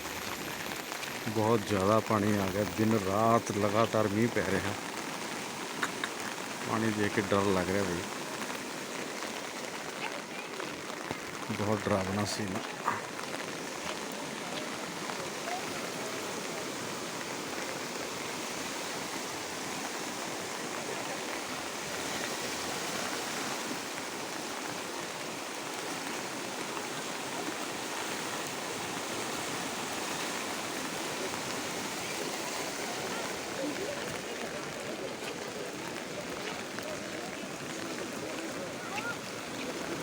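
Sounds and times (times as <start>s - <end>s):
flooded river rushing: 0.0s - 40.0s.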